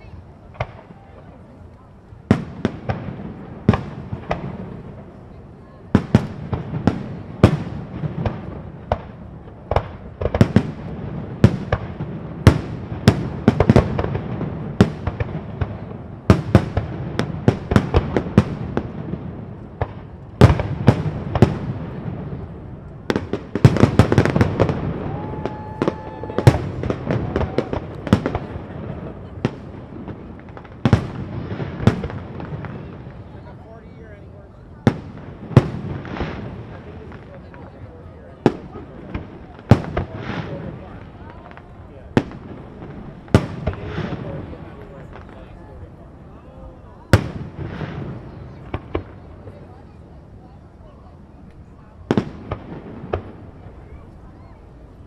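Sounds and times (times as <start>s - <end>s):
fireworks bursting with sharp bangs: 0.0s - 55.0s
fireworks crackling: 0.0s - 55.0s.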